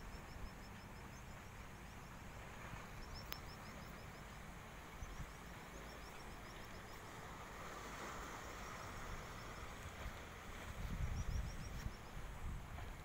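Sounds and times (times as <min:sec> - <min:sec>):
wind and water noise: 0:00.0 - 0:13.0.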